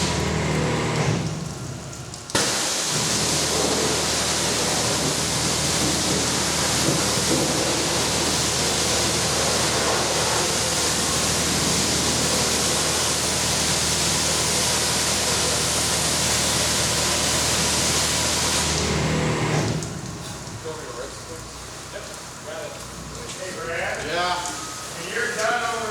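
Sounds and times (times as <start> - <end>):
pressure washer spraying: 0.0 - 25.9.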